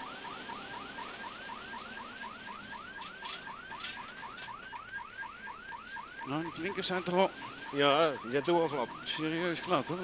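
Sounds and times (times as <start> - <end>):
electronic siren yelping: 0.0 - 10.0.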